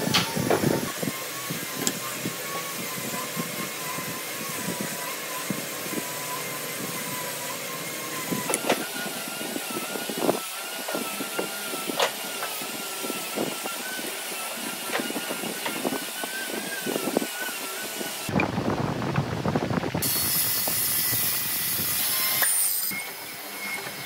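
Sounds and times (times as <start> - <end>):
motor high whine: 0.0 - 24.0.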